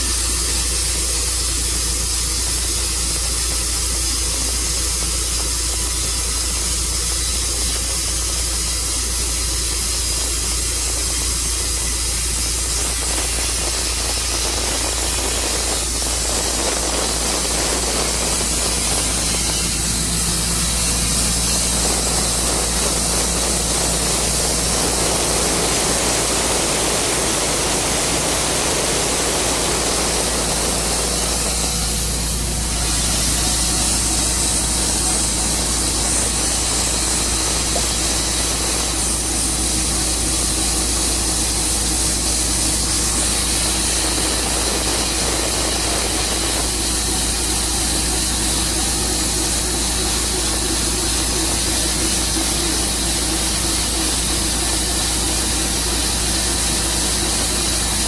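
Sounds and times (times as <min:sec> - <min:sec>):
sawmill cutting a log: 0:00.0 - 0:58.0.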